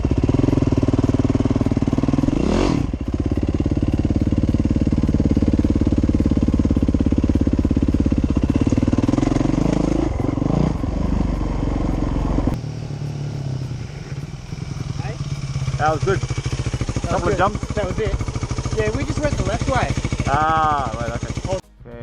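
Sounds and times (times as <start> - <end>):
dirt bike engine revving: 0.0 - 21.6.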